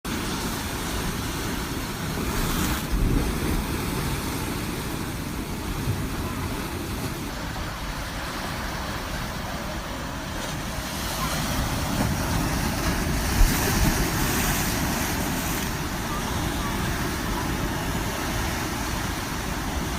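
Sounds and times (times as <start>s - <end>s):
ocean surf breaking: 0.1s - 19.9s.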